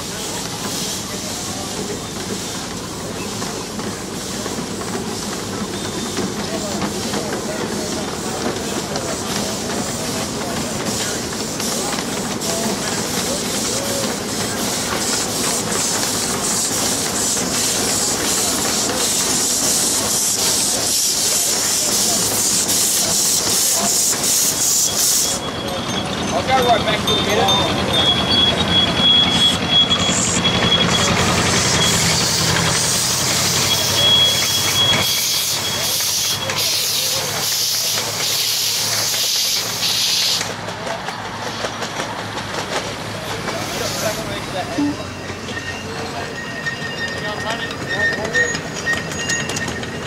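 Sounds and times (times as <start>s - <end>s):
miniature train passing with hiss: 0.0s - 50.0s
steam locomotive chuffing: 0.0s - 50.0s.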